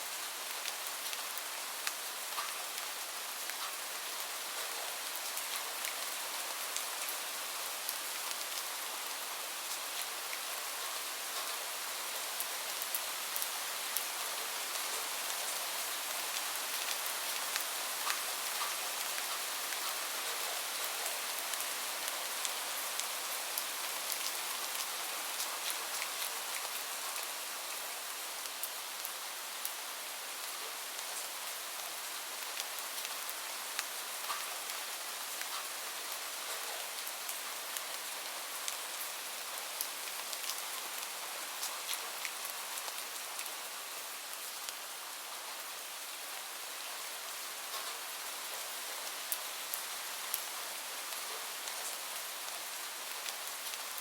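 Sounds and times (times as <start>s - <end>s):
steady rain with drop ticks: 0.0s - 54.0s.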